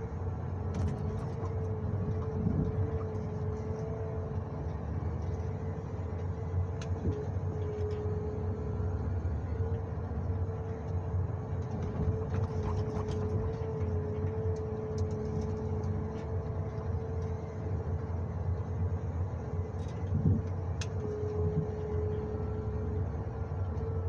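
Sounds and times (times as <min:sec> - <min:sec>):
low diesel engine drone: 0:00.0 - 0:24.0.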